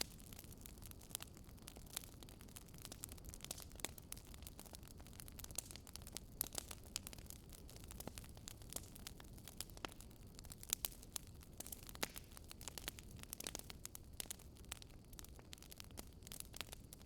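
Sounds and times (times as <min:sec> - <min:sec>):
bonfire wood crackling: 0:00.0 - 0:17.0
low rumble of flames: 0:00.0 - 0:17.0.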